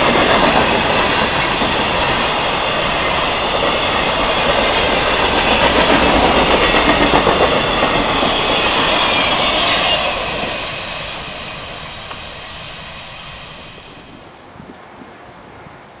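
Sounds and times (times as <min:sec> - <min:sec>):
freight train rolling past: 0:00.0 - 0:16.0
steel wheels on rails: 0:00.0 - 0:16.0.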